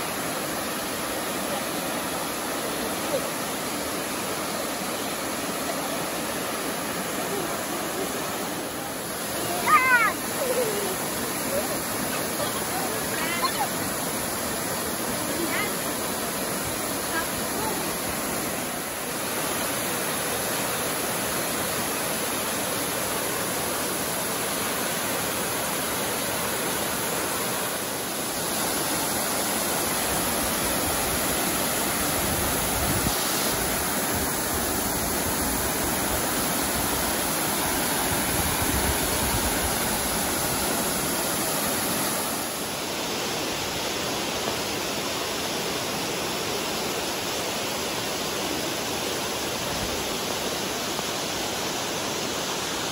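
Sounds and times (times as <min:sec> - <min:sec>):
waterfall rushing into pool: 0:00.0 - 0:52.9.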